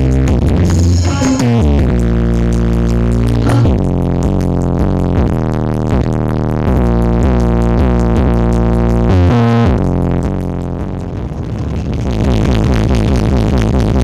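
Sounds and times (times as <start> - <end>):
electronic dance music heavy bass: 0.0 - 14.0.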